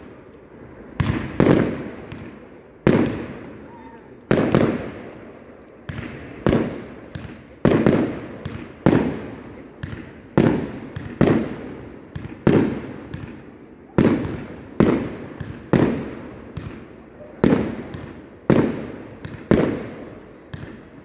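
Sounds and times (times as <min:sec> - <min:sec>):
fireworks bursting with echo: 0:00.0 - 0:21.0.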